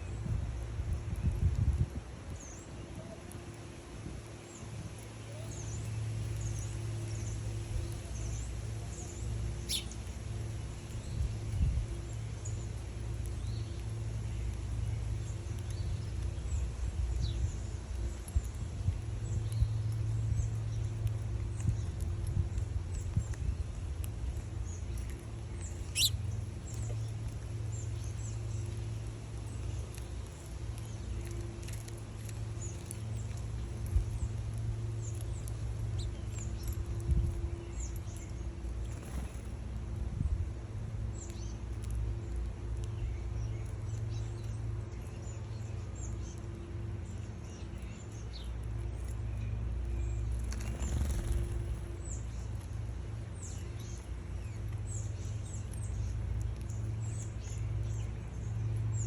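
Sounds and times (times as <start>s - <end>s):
small birds chirping: 0.0s - 59.0s
low hum: 4.0s - 59.0s.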